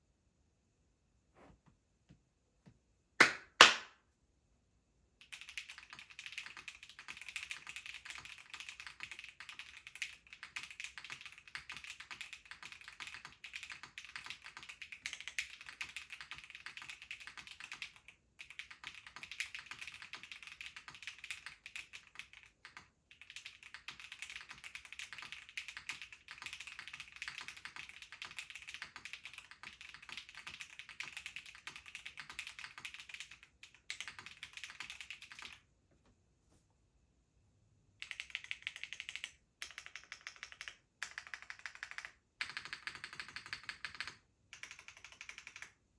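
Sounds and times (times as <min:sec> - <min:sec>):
mechanical keyboard typing: 0:05.2 - 0:35.6, 0:38.0 - 0:45.8.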